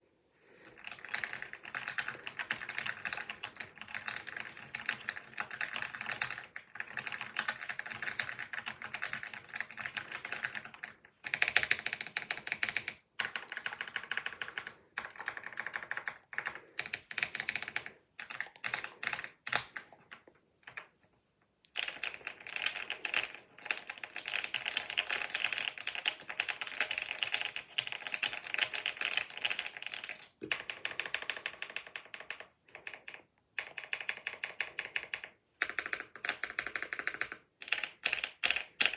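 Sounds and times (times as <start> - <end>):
fast typing on mechanical keyboard: 0.5 - 20.9, 21.7 - 38.9.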